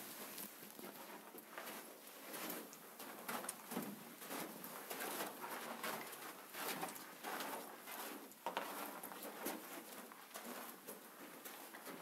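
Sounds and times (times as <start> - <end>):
footsteps on stony floor: 0.0 - 12.0.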